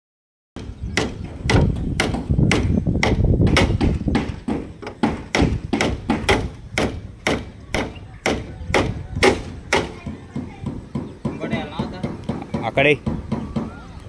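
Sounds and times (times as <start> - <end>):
hammer striking wooden board: 0.6 - 13.8.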